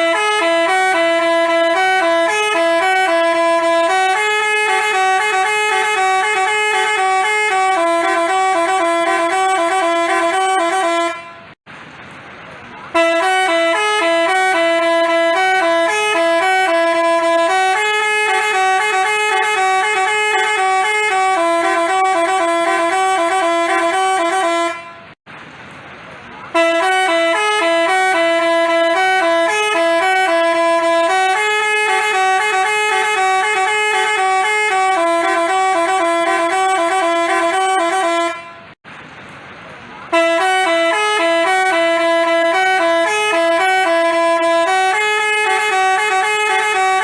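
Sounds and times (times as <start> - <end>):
bus horn playing a melody: 0.0 - 11.6, 12.9 - 25.2, 26.5 - 38.8, 40.1 - 47.0.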